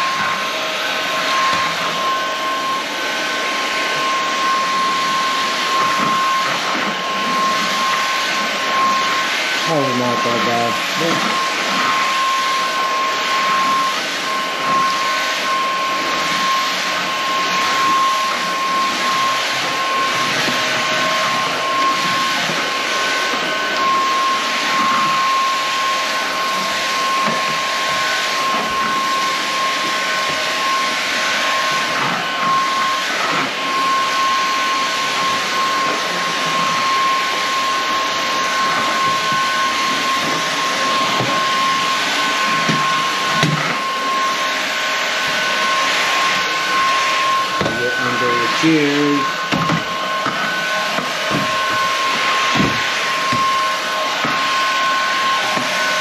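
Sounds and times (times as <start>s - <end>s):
stick vacuum running: 0.0s - 56.0s.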